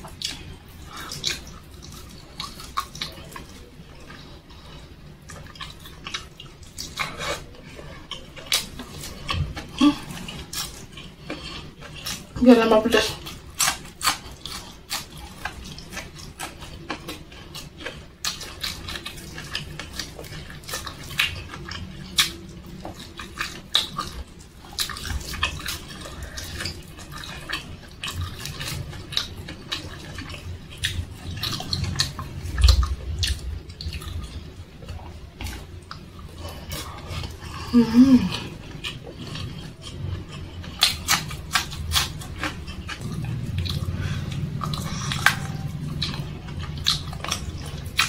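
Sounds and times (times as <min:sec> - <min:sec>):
wet chewing and lip smacks: 0:00.0 - 0:12.4, 0:13.1 - 0:37.7, 0:38.3 - 0:48.0.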